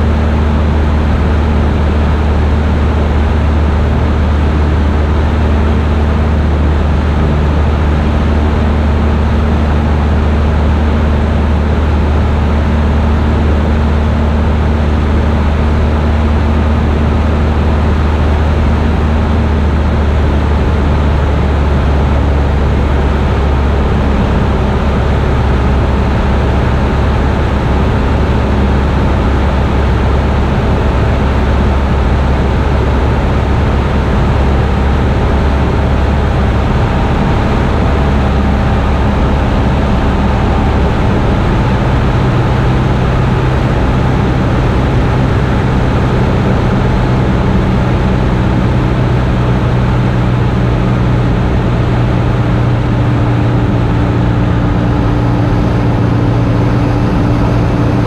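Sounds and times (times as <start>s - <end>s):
light aircraft engine droning: 0.0s - 58.0s
airflow noise: 11.2s - 58.0s.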